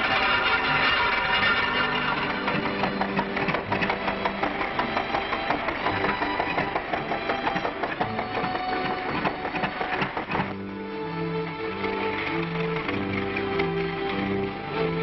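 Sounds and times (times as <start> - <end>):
fast clatter of clicks: 0.0 - 10.6, 11.7 - 14.5
film soundtrack hiss: 0.0 - 15.0.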